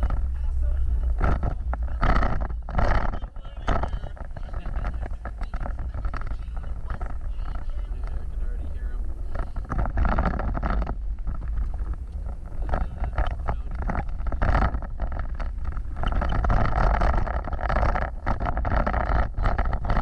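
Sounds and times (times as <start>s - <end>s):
off-road vehicle engine rumble: 0.0s - 20.0s
wind buffeting microphone: 0.0s - 20.0s.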